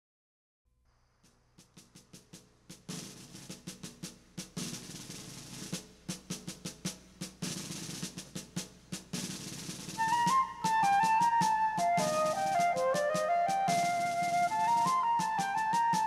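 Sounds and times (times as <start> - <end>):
snare drum cadence: 1.2 - 16.0.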